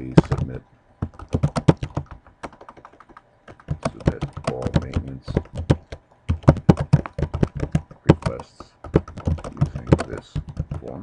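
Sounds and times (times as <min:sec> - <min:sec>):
computer keyboard typing: 0:00.1 - 0:11.0.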